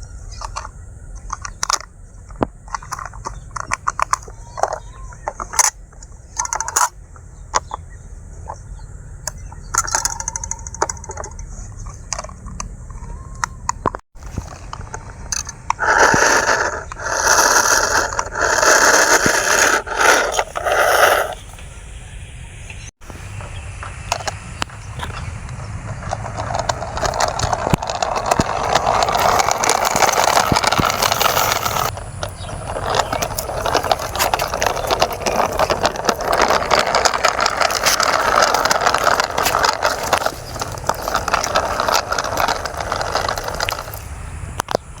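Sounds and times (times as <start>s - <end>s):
toy car plastic rattle: 0.0s - 21.6s, 23.4s - 44.8s.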